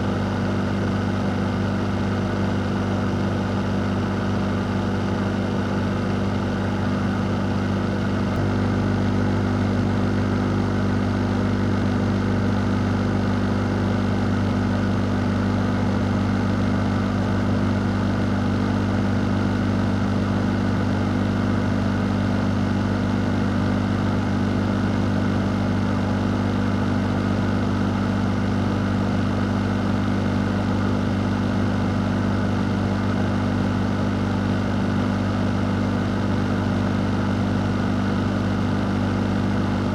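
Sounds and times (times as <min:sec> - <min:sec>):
fan motor hum: 0:00.0 - 0:39.9.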